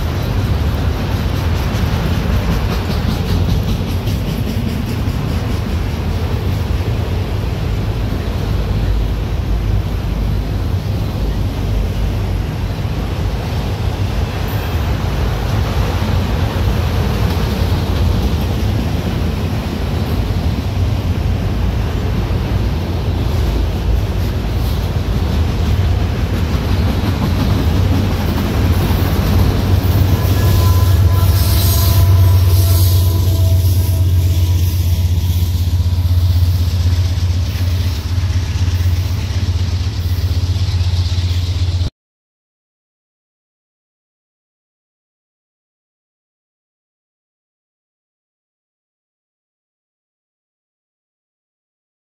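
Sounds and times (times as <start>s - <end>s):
locomotive high whine: 0.0s - 41.9s
train wheels rumbling on rail: 0.0s - 41.9s.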